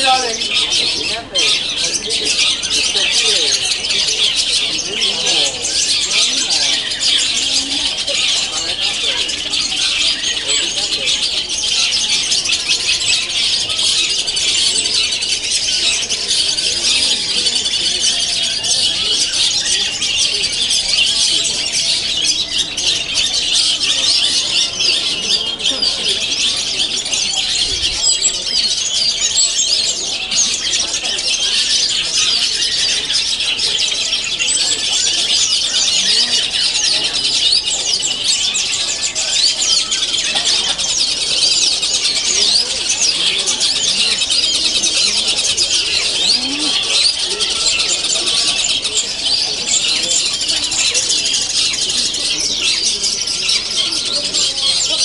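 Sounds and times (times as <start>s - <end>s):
birds chirping shrilly: 0.0s - 55.0s.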